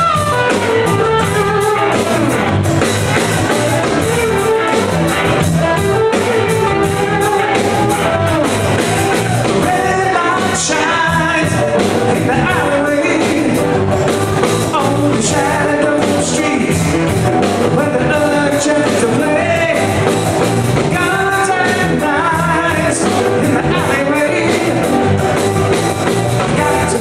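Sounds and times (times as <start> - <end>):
bass guitar: 0.0 - 27.0
drum kit: 0.0 - 27.0
electric guitars: 0.0 - 27.0
person singing: 3.4 - 20.2, 20.8 - 27.0.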